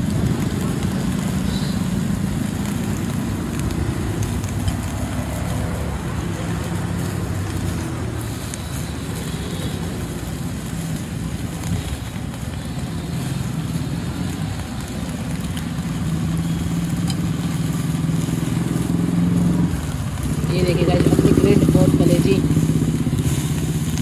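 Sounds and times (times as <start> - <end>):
vehicle engines humming: 0.0 - 24.0.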